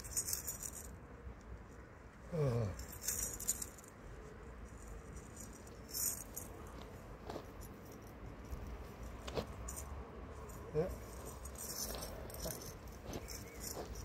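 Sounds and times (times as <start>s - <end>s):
light metallic jingling: 0.0s - 1.1s, 2.5s - 14.0s.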